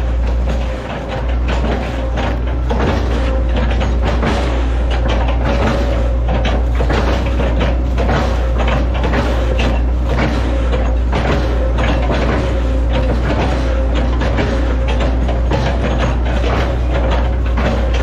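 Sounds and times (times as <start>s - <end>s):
excavator bucket knocks and clanks: 0.0s - 18.0s
excavator diesel engine: 0.0s - 18.0s.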